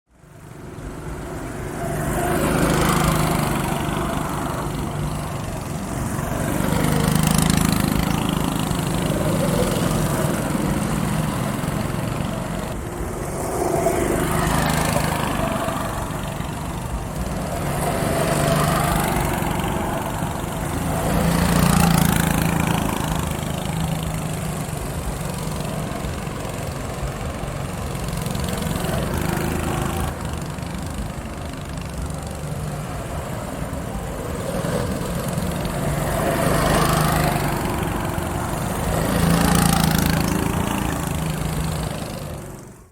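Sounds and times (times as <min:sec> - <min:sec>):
go-kart engines buzzing: 0:00.1 - 0:42.9
go-karts passing: 0:00.1 - 0:42.9.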